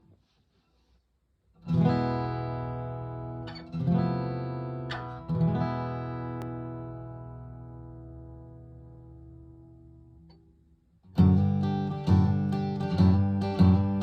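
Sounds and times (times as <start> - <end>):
acoustic guitar chord strummed: 1.7 - 14.0.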